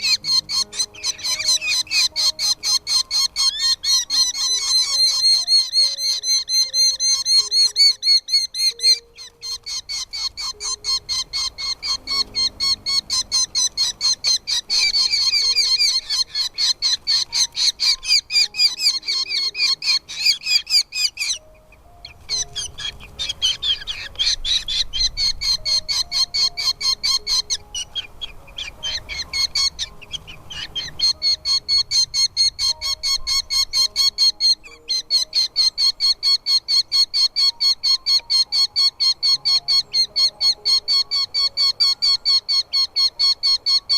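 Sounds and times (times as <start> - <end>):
chicks begging chirps: 0.0 - 43.9
faint background music: 0.0 - 43.9.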